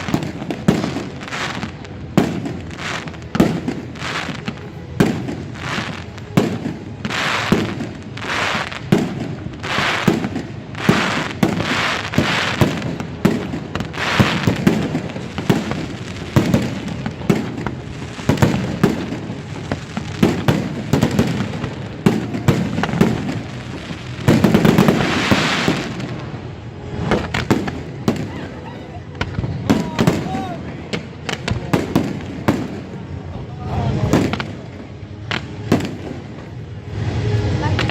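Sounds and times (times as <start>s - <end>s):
fireworks bangs: 0.0s - 37.9s
fireworks crackling hiss: 0.0s - 37.9s.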